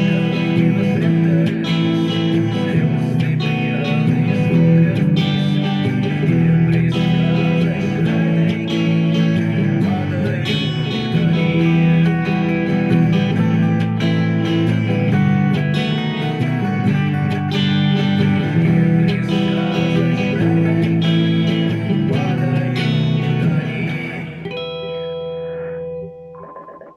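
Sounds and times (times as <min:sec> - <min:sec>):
acoustic guitar strumming: 0:00.0 - 0:26.9.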